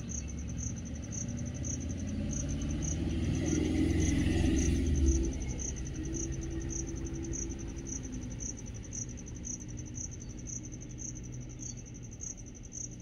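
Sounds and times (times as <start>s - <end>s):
high-pitched insect chirping: 0.0s - 13.0s
vehicle passing rumble: 0.0s - 13.0s.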